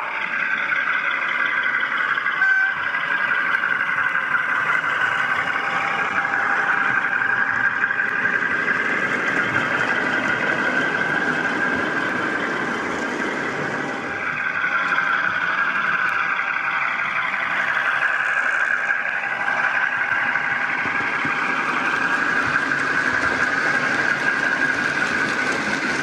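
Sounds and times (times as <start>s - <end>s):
model locomotive engine sound: 0.0s - 26.0s.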